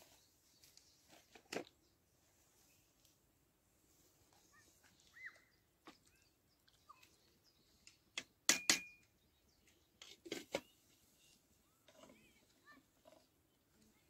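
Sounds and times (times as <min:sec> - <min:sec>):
small birds chirping: 0:00.0 - 0:03.2, 0:03.9 - 0:14.0.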